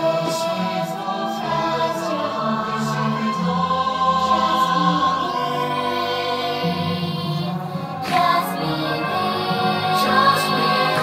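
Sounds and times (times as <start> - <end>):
choir singing held notes: 0.0 - 11.0
soundtrack music: 0.0 - 11.0.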